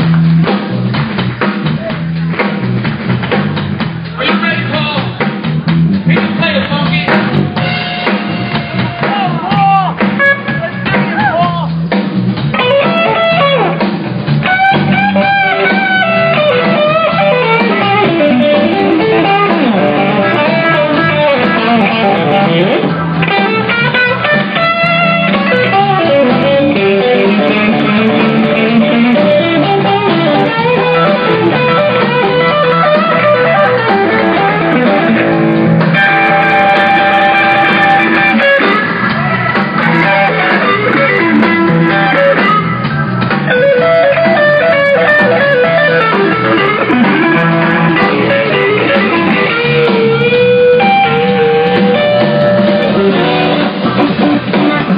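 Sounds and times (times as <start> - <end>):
bass guitar: 0.0 - 54.9
drums: 0.0 - 54.9
electric guitar lead lines: 5.9 - 54.9.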